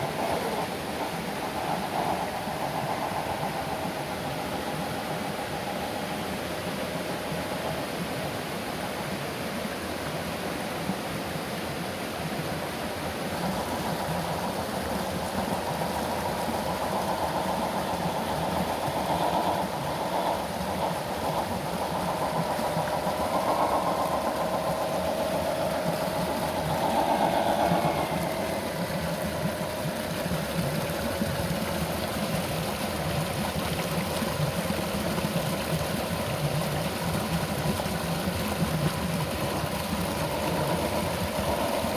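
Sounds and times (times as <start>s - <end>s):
steady background hiss: 0.0s - 35.5s.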